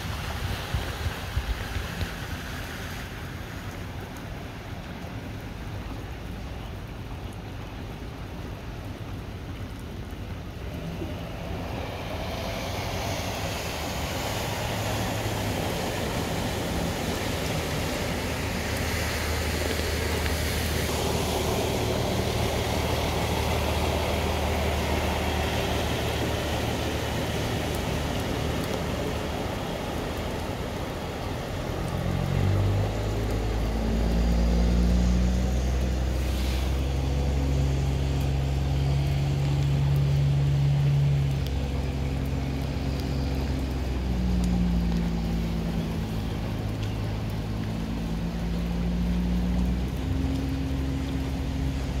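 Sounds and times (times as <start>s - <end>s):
tyres splashing through water: 0.0s - 52.0s
truck engine drone: 7.9s - 52.0s.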